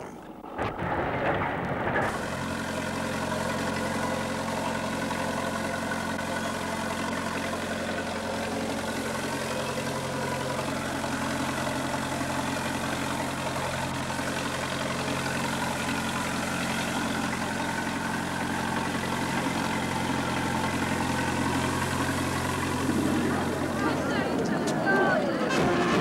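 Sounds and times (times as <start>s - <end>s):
sprinkler machine engine hum: 1.7s - 26.0s.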